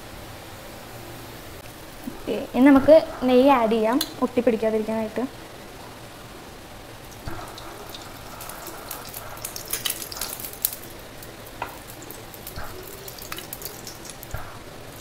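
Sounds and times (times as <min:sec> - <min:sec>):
ghee sizzling and crackling in pan: 0:01.6 - 0:15.0.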